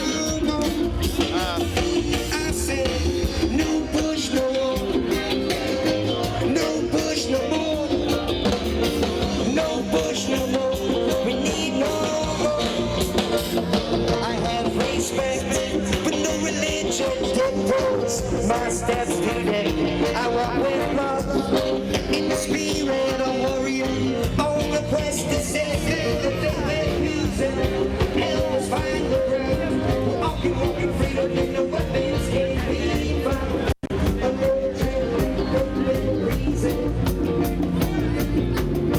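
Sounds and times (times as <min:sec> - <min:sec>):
live reggae band playing: 0:00.0 - 0:38.9.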